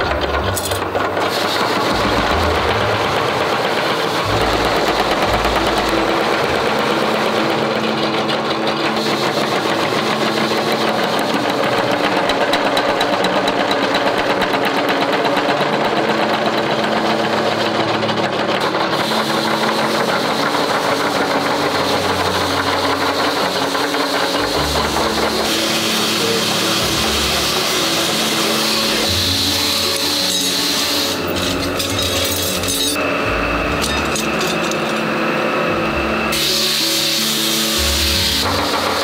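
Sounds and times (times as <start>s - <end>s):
power hammer pounding steel: 0.0s - 39.0s.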